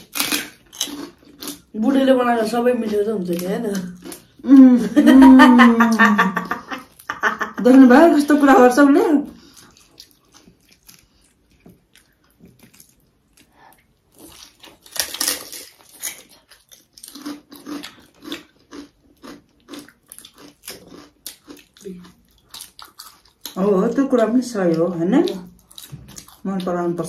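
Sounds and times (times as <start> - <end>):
person chewing and crunching: 0.0 - 1.8, 2.6 - 7.6, 9.4 - 23.6, 24.7 - 26.6.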